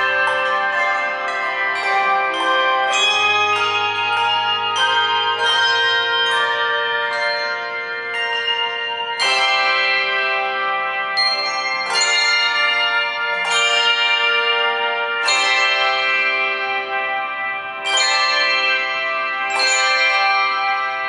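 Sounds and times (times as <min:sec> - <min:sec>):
handbell choir ringing chords: 0:00.0 - 0:21.0.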